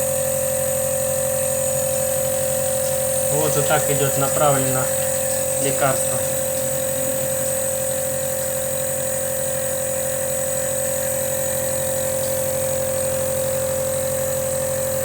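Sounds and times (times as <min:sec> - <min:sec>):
nebulizer motor humming: 0:00.0 - 0:15.0.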